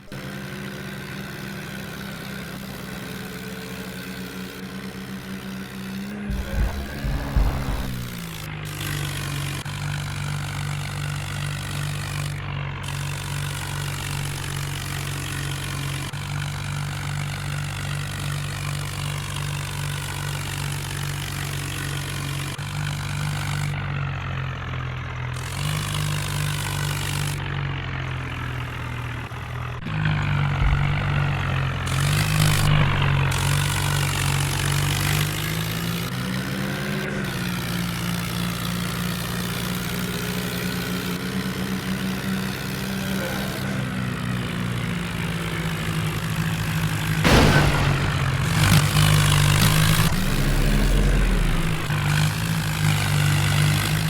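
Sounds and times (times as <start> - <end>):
tractor diesel engines running: 0.0 - 54.0.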